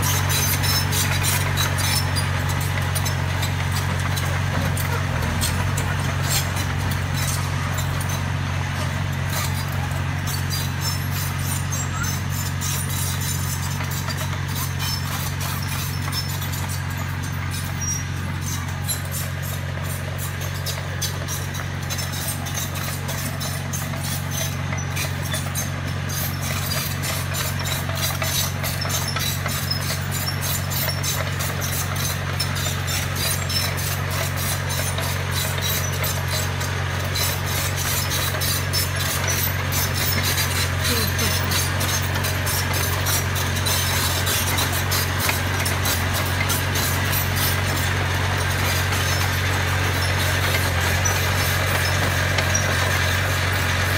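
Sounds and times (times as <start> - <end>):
bulldozer diesel engine running: 0.0 - 53.9
steel tracks clanking: 0.0 - 53.9.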